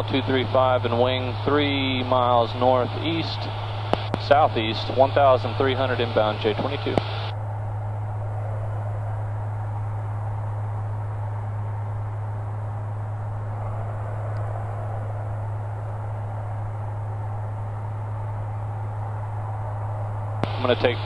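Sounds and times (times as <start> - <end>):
aircraft engine and propeller droning: 0.0 - 21.0
low hum: 0.0 - 21.0.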